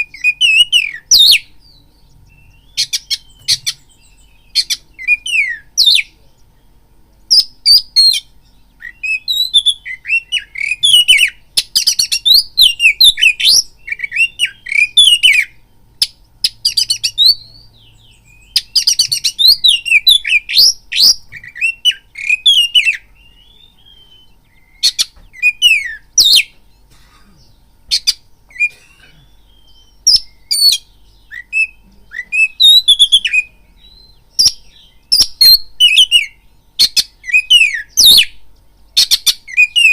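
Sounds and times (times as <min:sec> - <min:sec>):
songbird whistles and trills: 0:00.0 - 0:26.8, 0:27.4 - 0:39.9.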